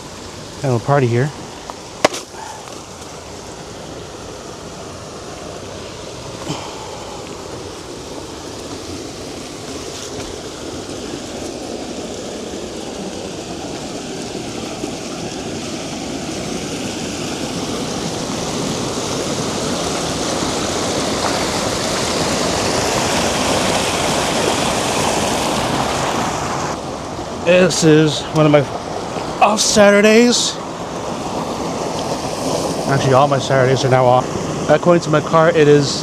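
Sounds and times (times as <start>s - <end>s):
creek water rushing: 0.0s - 36.0s.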